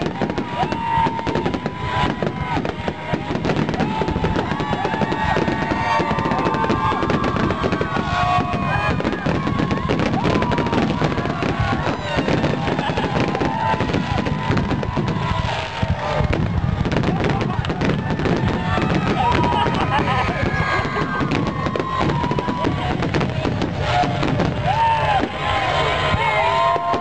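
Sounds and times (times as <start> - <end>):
fireworks crackling and bursting: 0.0 - 27.0
whistling firework tones: 0.0 - 27.0.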